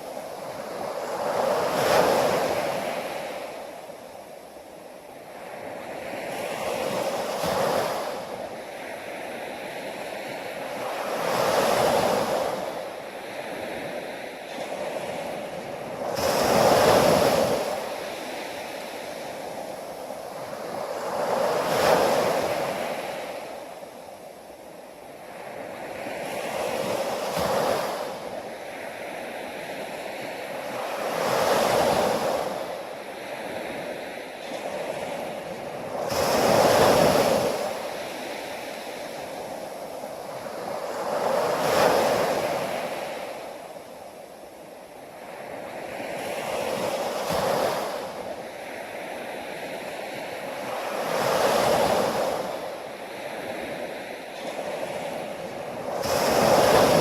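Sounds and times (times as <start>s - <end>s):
ocean waves washing in: 0.0s - 57.0s.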